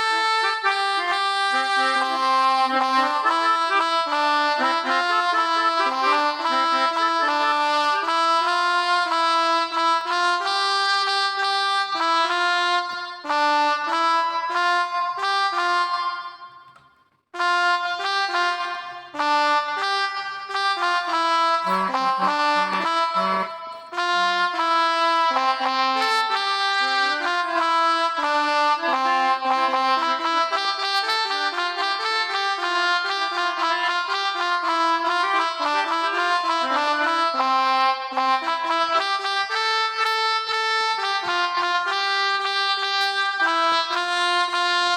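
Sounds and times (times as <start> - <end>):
melodica melody: 0.0 - 44.9.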